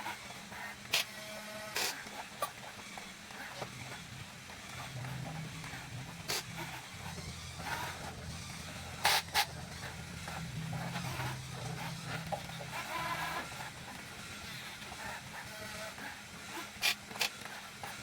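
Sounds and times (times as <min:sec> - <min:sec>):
small electric motors humming: 0:00.0 - 0:18.0.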